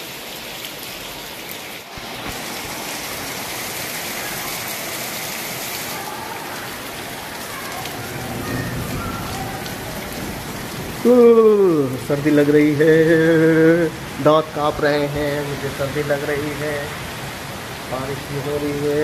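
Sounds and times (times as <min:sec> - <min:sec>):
heavy rain on tiles: 0:00.0 - 0:19.0.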